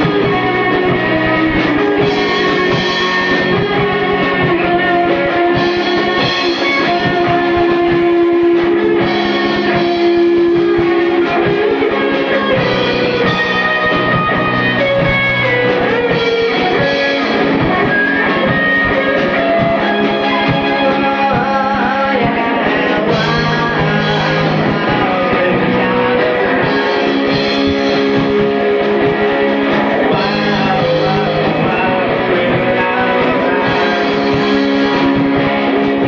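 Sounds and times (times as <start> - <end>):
drum kit steady beat: 0.0 - 36.0
electric guitars: 0.0 - 36.0.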